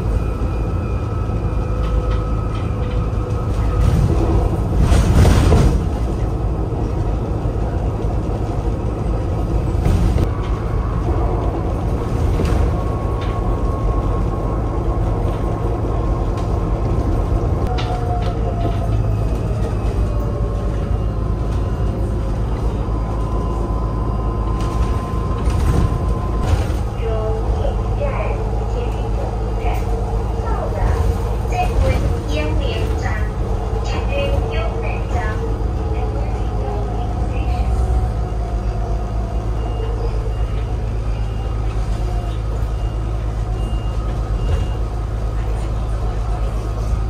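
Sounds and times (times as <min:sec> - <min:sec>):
road and tyre rumble: 0:00.0 - 0:47.0.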